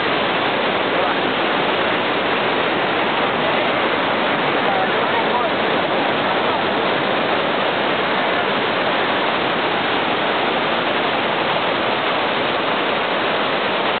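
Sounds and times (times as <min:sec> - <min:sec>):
waterfall rushing over rocks: 0:00.0 - 0:14.0.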